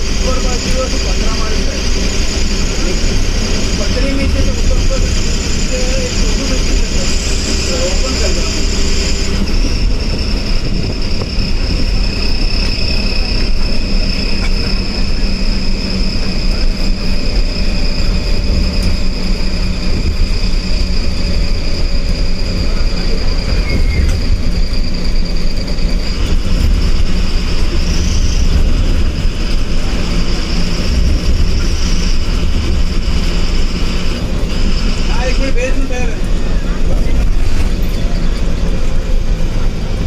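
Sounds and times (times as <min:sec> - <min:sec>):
bus engine low rumble: 0:00.0 - 0:40.0.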